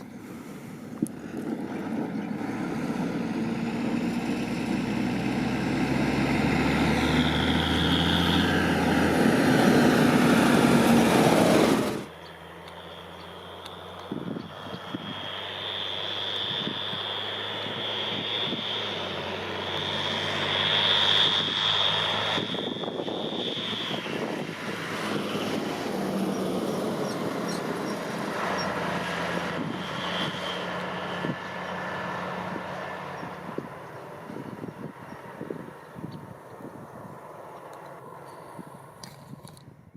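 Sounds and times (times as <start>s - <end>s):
tractor diesel engine running: 0.0s - 39.8s.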